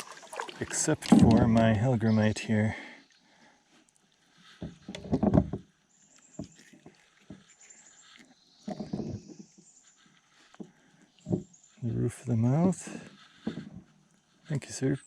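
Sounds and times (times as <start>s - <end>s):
knocks and rustling on a kayak: 0.0s - 2.0s, 4.3s - 14.8s.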